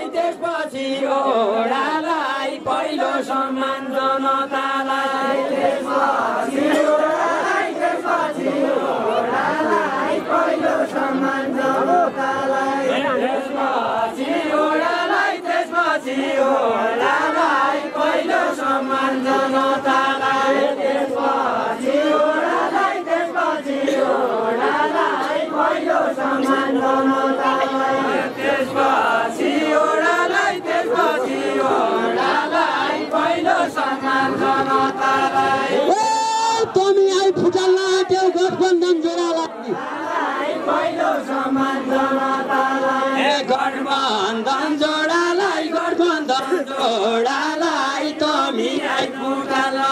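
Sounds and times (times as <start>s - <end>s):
men singing in unison: 0.0s - 49.9s.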